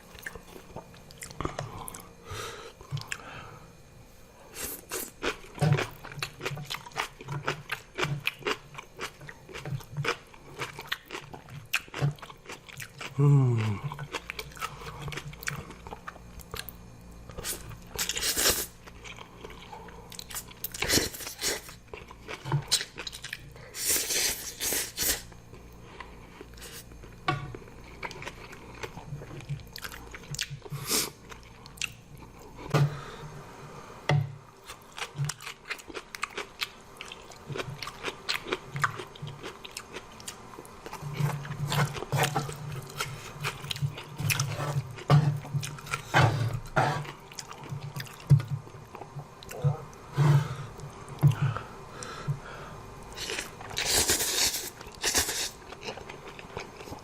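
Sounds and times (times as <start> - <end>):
person chewing and crunching: 0.1 - 2.2, 4.6 - 32.7, 34.6 - 50.0, 53.0 - 57.0.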